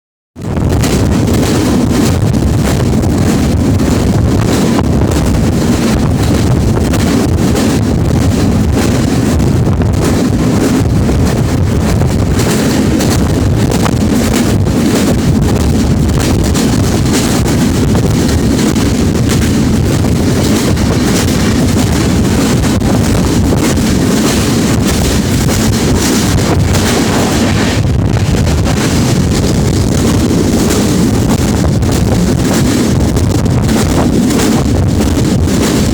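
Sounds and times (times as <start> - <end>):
moving train rumble: 0.4 - 35.9
wind buffeting microphone: 0.4 - 35.9.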